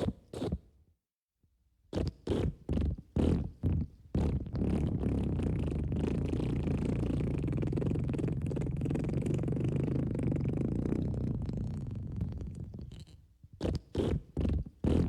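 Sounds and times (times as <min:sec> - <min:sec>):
long low fart: 0:02.0 - 0:15.0
short farts: 0:02.0 - 0:15.0.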